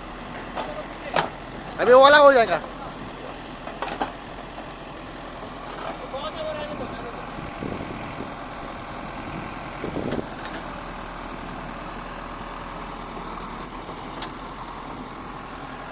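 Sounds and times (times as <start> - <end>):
engine running steadily: 0.0 - 15.9.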